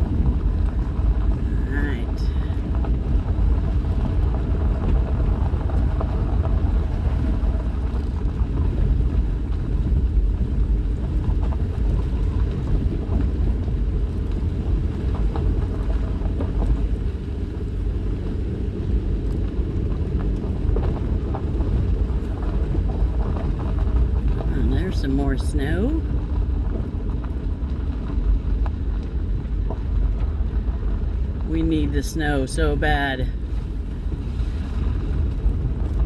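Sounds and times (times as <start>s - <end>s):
vehicle rumbling on bumpy road: 0.0s - 36.0s.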